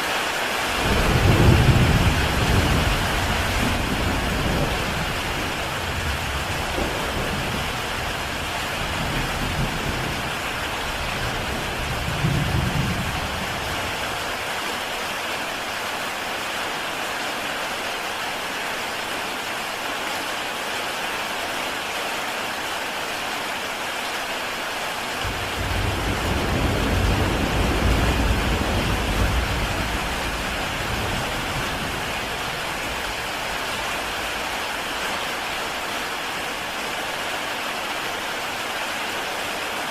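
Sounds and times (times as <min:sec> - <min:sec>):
heavy rain on a tile roof: 0:00.0 - 0:39.9.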